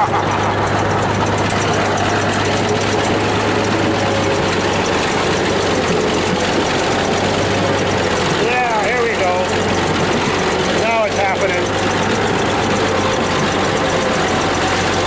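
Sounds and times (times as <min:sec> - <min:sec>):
bulldozer diesel engine clattering: 0:00.0 - 0:15.0.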